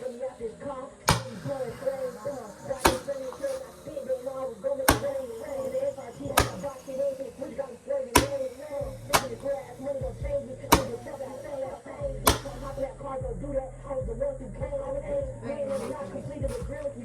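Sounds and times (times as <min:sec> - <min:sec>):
sharp bangs: 0:00.0 - 0:13.0, 0:15.7 - 0:17.0.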